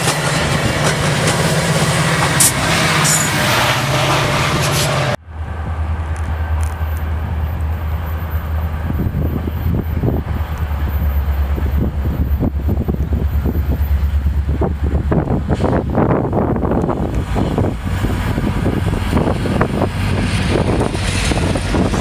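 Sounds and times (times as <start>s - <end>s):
diesel locomotive running: 0.0s - 22.0s
steady low rumble: 0.0s - 22.0s
train wheels on rails: 0.0s - 22.0s
wind buffeting microphone: 0.0s - 22.0s.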